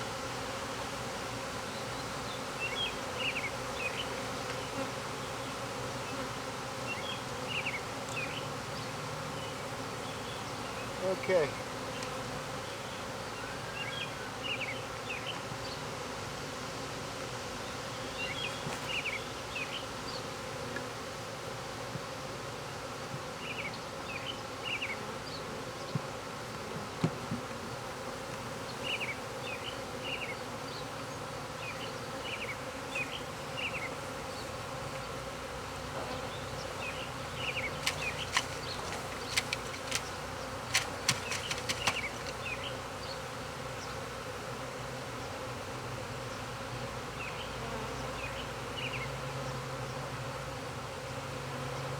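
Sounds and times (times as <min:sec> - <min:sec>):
bees buzzing: 0:00.0 - 0:51.9.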